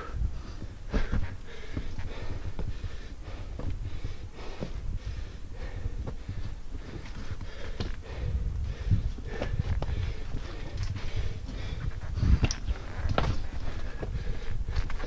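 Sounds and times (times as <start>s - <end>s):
person breathing hard: 0.0s - 15.0s
wind rumble on microphone: 0.0s - 15.0s.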